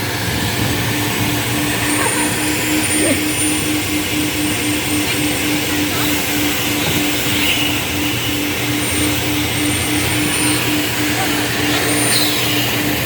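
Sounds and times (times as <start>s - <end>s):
vacuum air rushing: 0.0s - 12.0s
thin high whine: 0.0s - 13.0s
vacuum motor hum: 0.0s - 13.0s.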